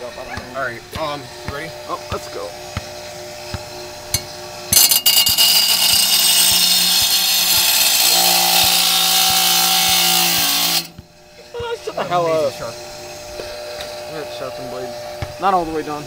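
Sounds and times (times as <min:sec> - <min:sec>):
bench grinder grinding steel: 0:00.0 - 0:16.0.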